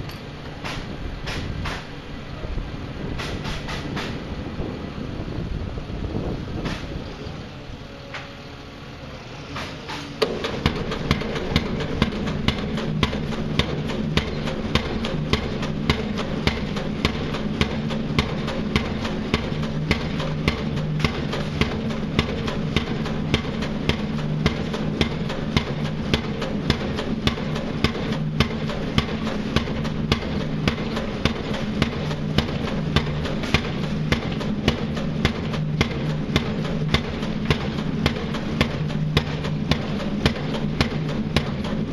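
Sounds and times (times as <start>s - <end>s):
pile driver hammering: 0.0s - 1.9s, 3.2s - 4.2s, 9.6s - 41.9s.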